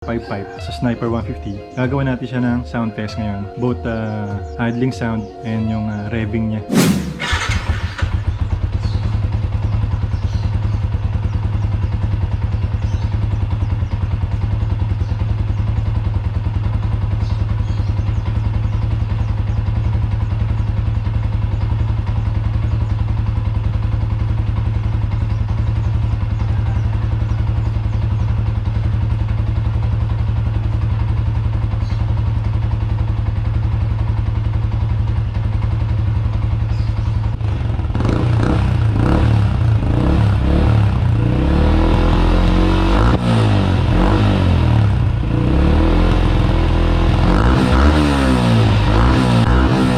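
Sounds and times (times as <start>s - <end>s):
motorcycle engine idling: 0.0s - 6.2s, 7.2s - 49.9s.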